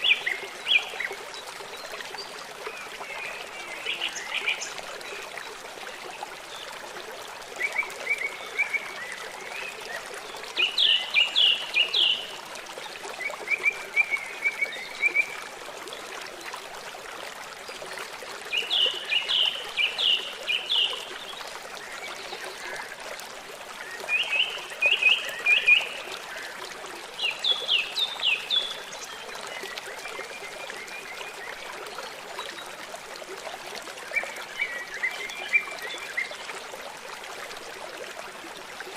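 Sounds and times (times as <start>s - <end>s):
trickling stream: 0.0s - 38.9s.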